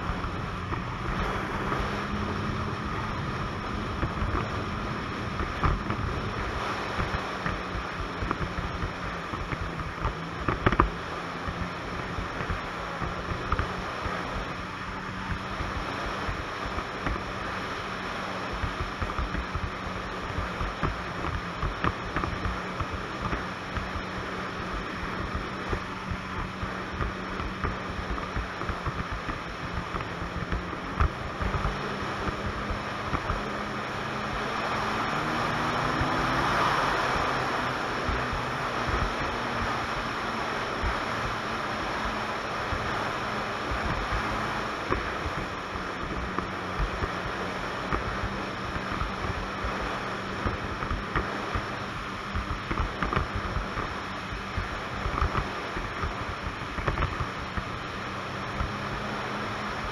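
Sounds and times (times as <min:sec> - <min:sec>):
snowmobile engine humming: 0:00.0 - 0:59.9
snowmobile track noise: 0:00.0 - 0:59.9.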